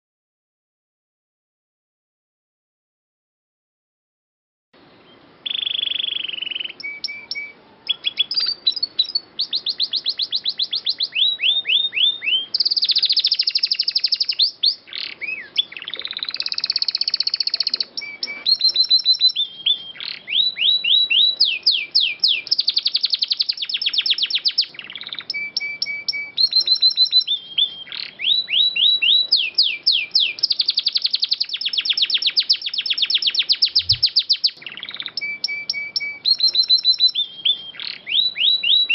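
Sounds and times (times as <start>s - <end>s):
canary singing trills: 4.8s - 38.9s.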